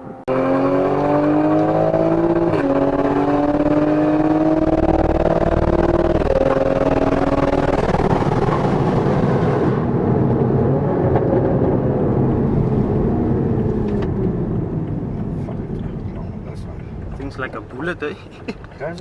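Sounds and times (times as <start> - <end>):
car engine: 0.0 - 19.0
road noise: 0.0 - 19.0.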